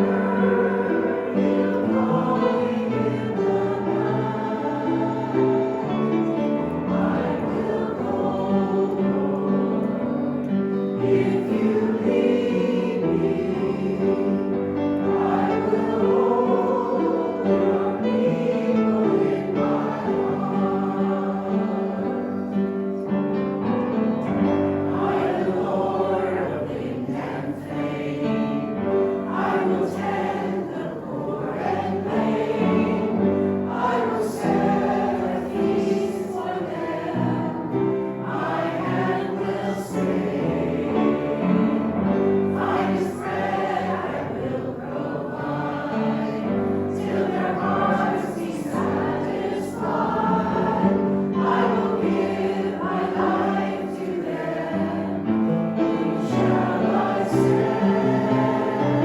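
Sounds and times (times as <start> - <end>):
group singing a hymn: 0.0 - 59.0.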